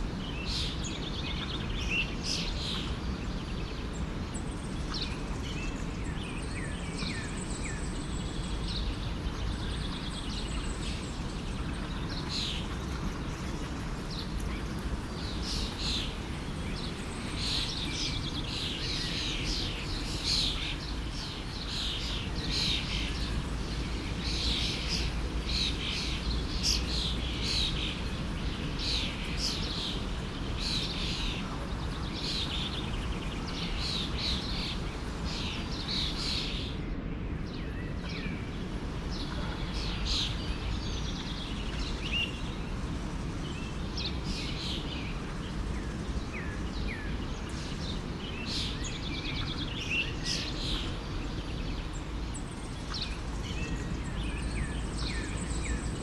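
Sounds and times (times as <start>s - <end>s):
small birds chirping: 0.0s - 36.8s, 37.4s - 56.0s
forest stream rushing: 6.2s - 36.8s, 37.8s - 56.0s.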